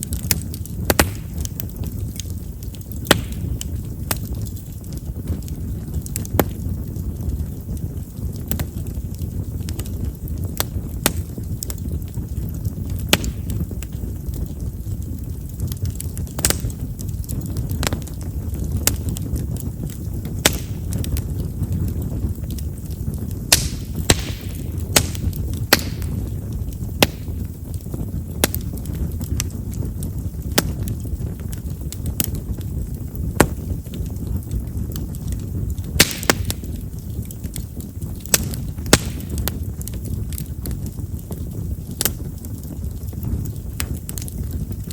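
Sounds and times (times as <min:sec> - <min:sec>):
bonfire crackling and popping: 0:00.0 - 0:44.9
low fire rumble: 0:00.0 - 0:44.9.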